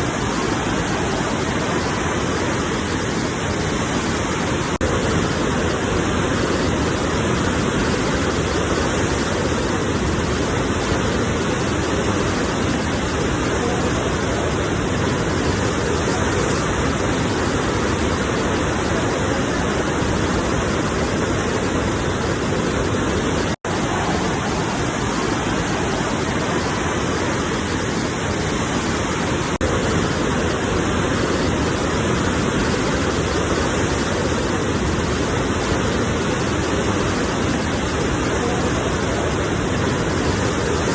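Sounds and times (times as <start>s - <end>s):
sea waves surf: 0.0s - 40.9s.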